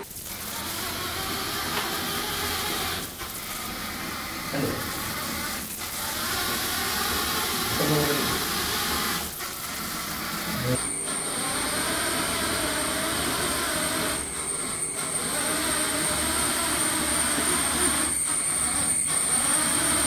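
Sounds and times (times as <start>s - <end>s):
small robot motors whirring: 0.0s - 20.0s
wheels rolling on tiled floor: 0.0s - 20.0s.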